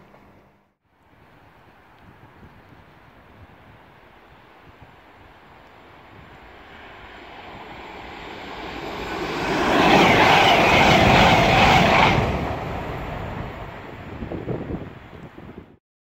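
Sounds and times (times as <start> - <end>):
passenger train passing at speed: 0.0 - 15.8.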